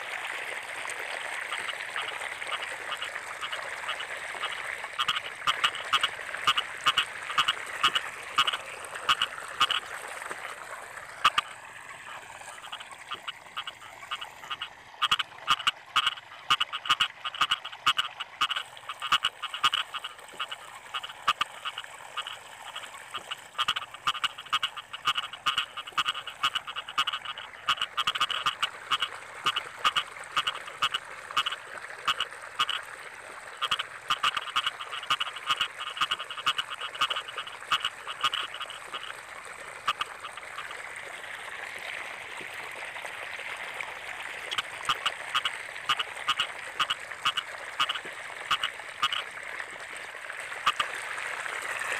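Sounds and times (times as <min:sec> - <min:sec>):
frog croaking: 0:00.7 - 0:43.2, 0:43.8 - 0:51.0.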